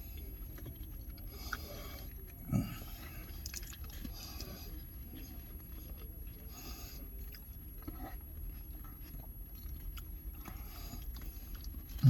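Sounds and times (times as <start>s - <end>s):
person chewing: 0.2s - 6.4s, 7.2s - 12.0s.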